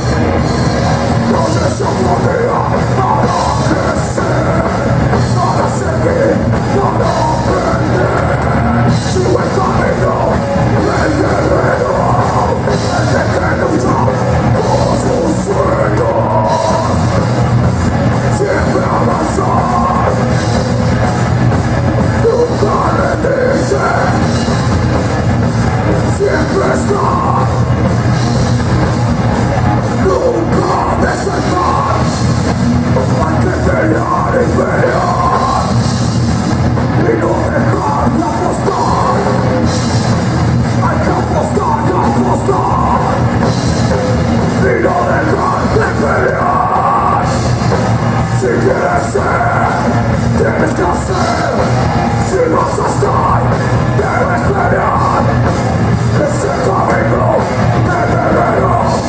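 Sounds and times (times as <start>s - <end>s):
person singing: 0.0s - 25.2s, 25.8s - 36.0s, 36.8s - 59.0s
bass guitar: 0.0s - 59.0s
drum kit: 0.0s - 59.0s
electric guitar: 0.0s - 59.0s.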